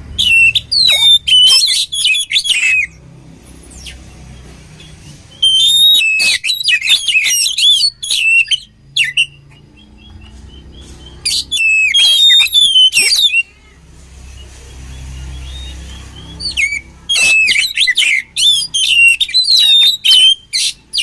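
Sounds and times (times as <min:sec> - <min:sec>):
bird whistled song: 0:00.0 - 0:21.0.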